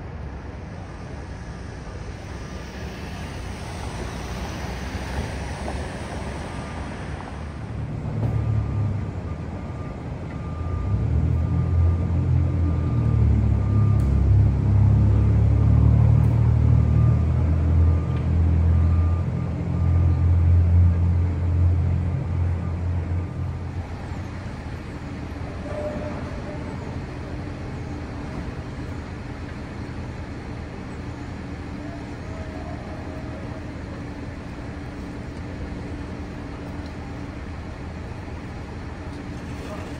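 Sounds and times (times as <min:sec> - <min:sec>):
street traffic noise: 0:00.0 - 0:39.9
vehicle engine rumbling: 0:00.0 - 0:39.9.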